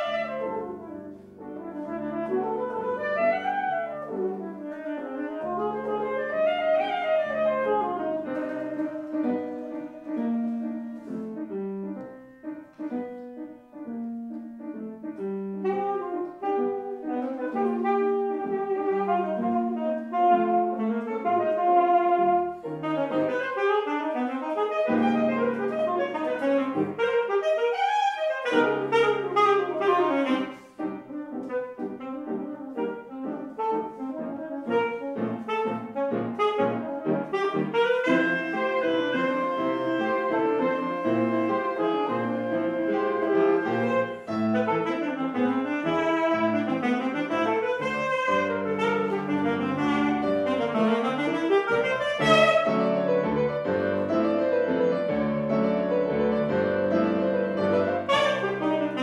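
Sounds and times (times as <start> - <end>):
saxophone and piano duet: 0.0 - 59.0.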